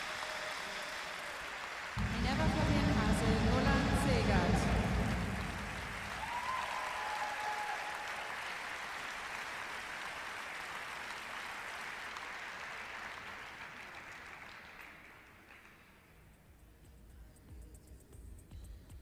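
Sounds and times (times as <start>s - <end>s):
audience applauding: 0.0s - 16.1s.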